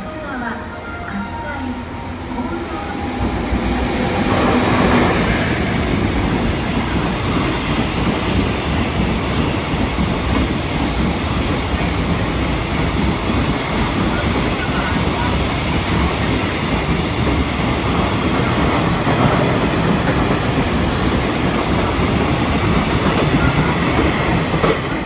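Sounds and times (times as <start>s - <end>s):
train wheels rumbling on rails: 2.4s - 25.0s.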